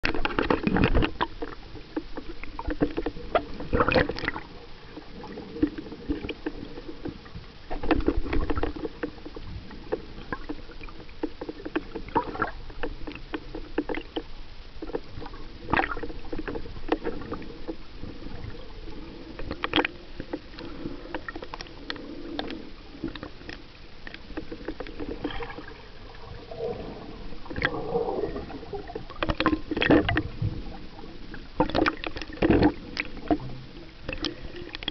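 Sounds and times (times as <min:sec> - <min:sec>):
muffled underwater bubbles: 0:00.0 - 0:34.9.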